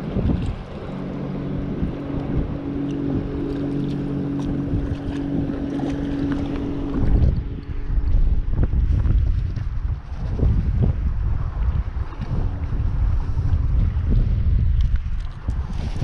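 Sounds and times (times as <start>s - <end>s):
boat motor humming: 0.0s - 16.0s
wind buffeting microphone: 0.0s - 16.0s.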